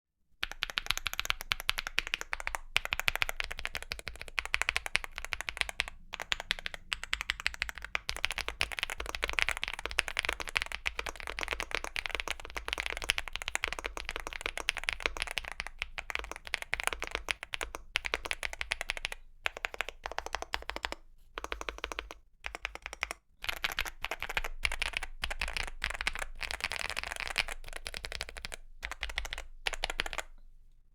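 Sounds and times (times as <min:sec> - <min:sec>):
fast mechanical keyboard typing: 0:00.4 - 0:30.3.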